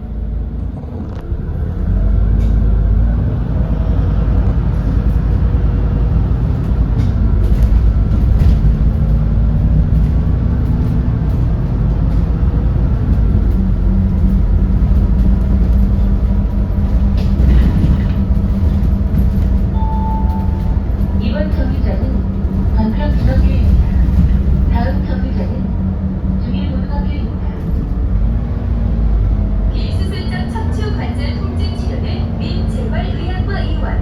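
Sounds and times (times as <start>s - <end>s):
bus engine drone inside cabin: 0.0s - 34.0s.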